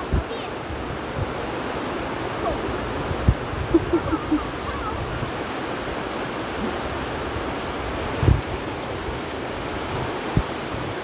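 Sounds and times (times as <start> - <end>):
ocean surf: 0.0 - 11.0
wind on microphone: 0.0 - 11.0.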